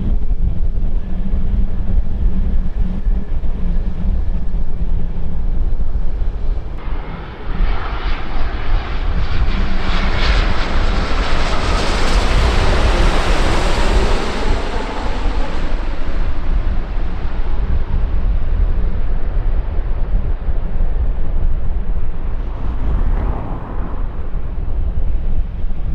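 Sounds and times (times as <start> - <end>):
airliner engines rushing: 0.0 - 25.9
wind rumble on microphone: 0.0 - 25.9.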